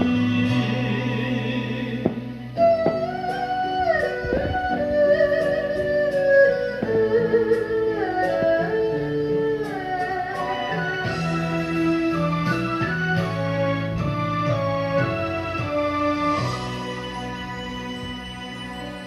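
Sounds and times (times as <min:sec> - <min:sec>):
band accompaniment: 0:00.0 - 0:19.0
sliding melody line: 0:00.0 - 0:19.0.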